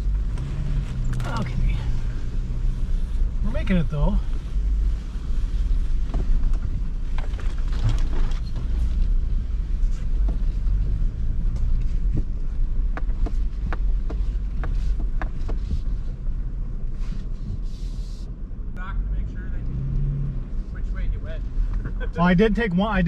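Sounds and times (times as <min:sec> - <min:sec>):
truck engine low rumble: 0:00.0 - 0:23.0.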